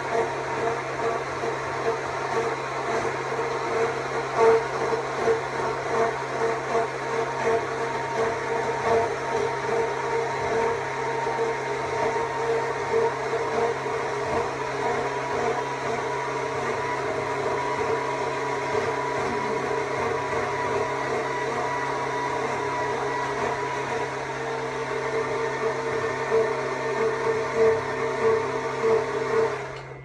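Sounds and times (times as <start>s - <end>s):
electric chainsaw cutting wood: 0.0s - 29.9s.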